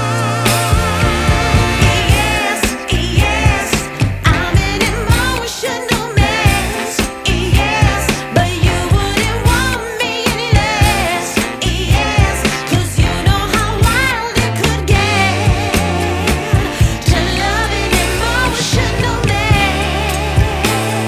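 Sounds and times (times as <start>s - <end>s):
song with vocal over beat: 0.0s - 21.0s.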